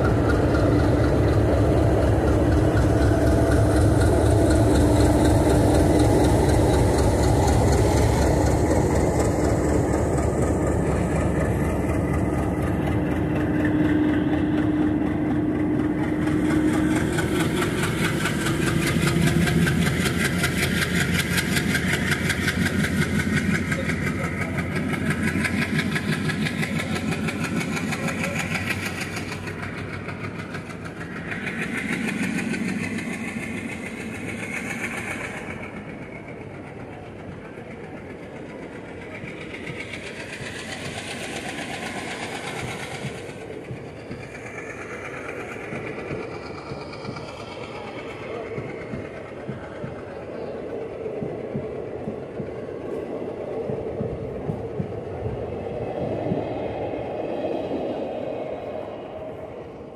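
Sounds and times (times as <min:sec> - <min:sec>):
diesel locomotive accelerating: 0:00.0 - 0:59.9
train wheels rumbling on rails: 0:00.0 - 0:59.9.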